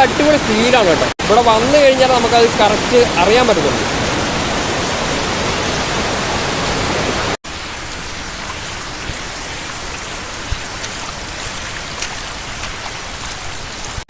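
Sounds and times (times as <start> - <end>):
drizzle rain ticking: 0.0 - 14.0
waterfall stream rushing: 0.0 - 14.0.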